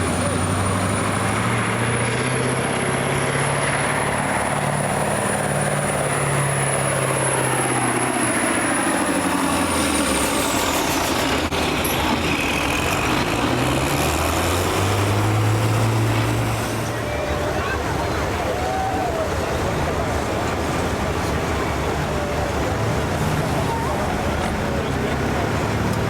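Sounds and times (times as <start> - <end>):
vehicle engine running hard: 0.0 - 26.0.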